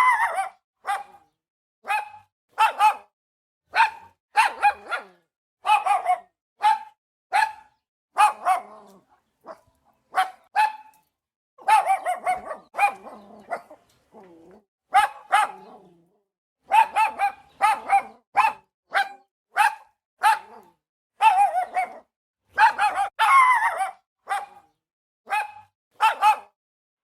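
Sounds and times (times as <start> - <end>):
dog barking: 0.0 - 11.0, 11.6 - 13.8, 14.9 - 16.0, 16.6 - 26.6.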